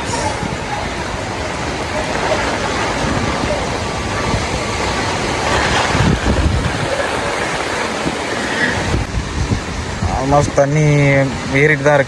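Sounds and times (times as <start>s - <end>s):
floodwater rushing: 0.0s - 12.0s
wind buffeting microphone: 0.0s - 12.0s.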